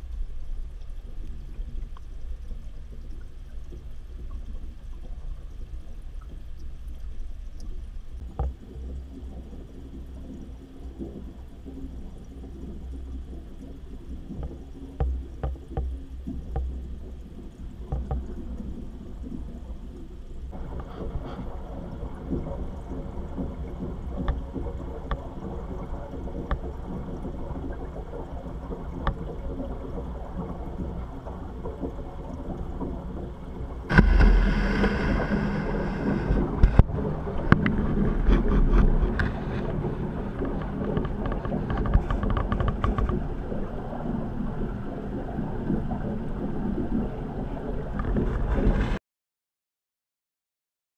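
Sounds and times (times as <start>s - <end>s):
rushing rumbling water: 8.0s - 49.0s.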